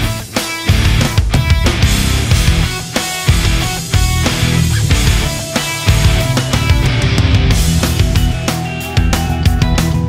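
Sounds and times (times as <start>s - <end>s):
hard rock music: 0.0s - 10.0s.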